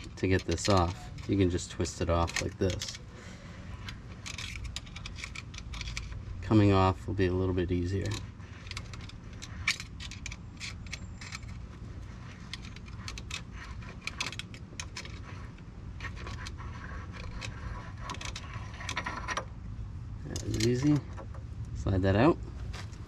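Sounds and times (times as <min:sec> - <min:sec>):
metal pick clicking and scraping: 0:00.0 - 0:03.1, 0:03.7 - 0:06.8, 0:07.8 - 0:19.6, 0:20.3 - 0:21.7
low background rumble: 0:00.0 - 0:23.0.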